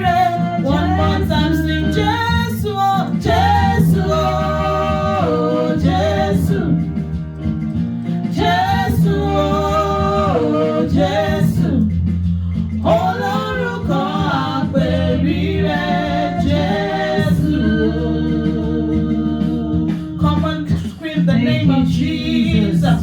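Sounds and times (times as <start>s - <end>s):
instrumental backing: 0.0s - 23.0s
person singing gospel song: 0.0s - 23.0s.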